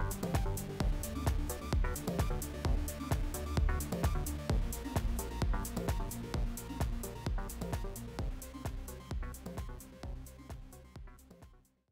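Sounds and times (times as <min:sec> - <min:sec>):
electronic music with steady beat: 0:00.0 - 0:11.6.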